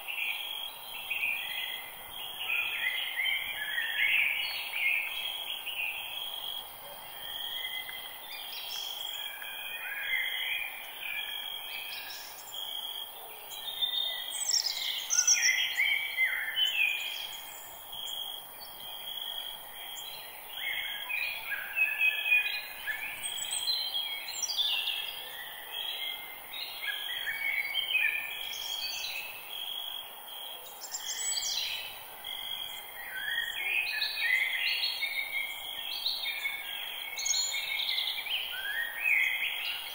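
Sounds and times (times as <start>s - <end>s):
birds singing and chirping: 0.0s - 29.4s, 30.7s - 39.9s.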